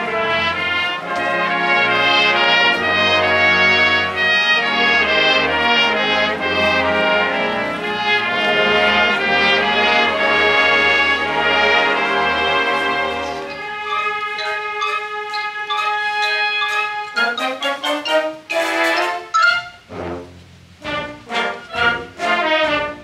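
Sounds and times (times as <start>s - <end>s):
brass section: 0.0s - 23.0s
orchestra playing film music: 0.0s - 23.0s.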